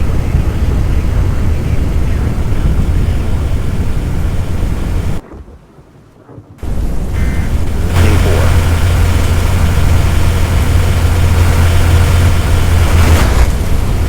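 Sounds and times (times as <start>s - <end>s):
loud rumbling rush: 0.0s - 5.2s, 6.6s - 14.0s.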